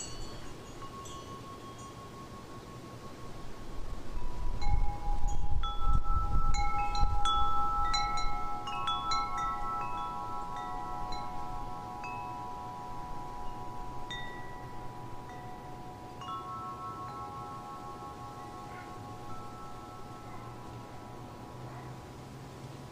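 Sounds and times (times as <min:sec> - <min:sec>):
wind chimes ringing: 0:00.0 - 0:21.8
low wind-like rumble: 0:00.0 - 0:21.9.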